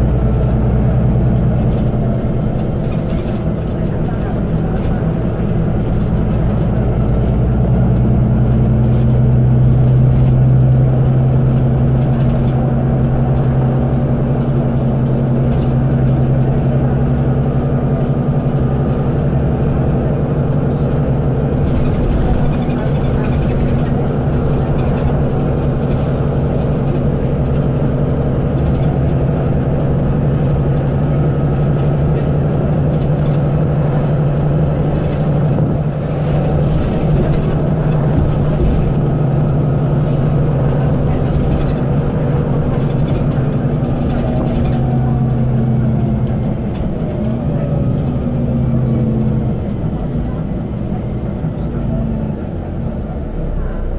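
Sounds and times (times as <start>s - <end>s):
bus diesel engine drone: 0.0s - 53.9s
road noise: 0.0s - 53.9s.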